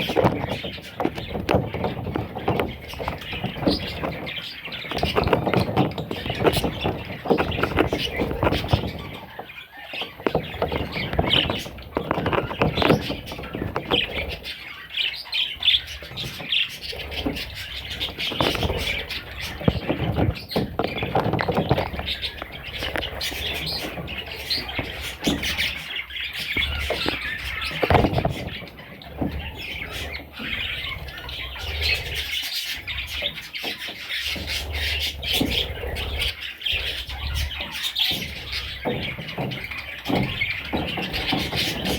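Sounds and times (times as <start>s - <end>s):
budgerigar chicks squawking: 0.0s - 41.9s.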